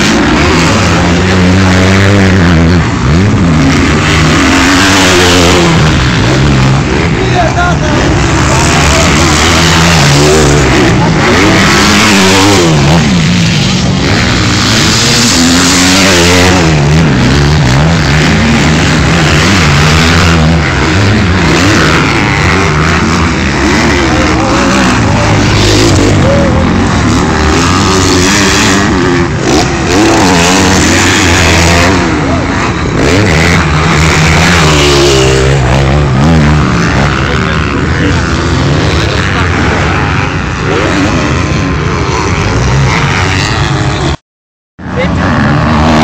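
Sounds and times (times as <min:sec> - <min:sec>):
dirt bike engines revving: 0:00.0 - 0:44.2, 0:44.8 - 0:46.0.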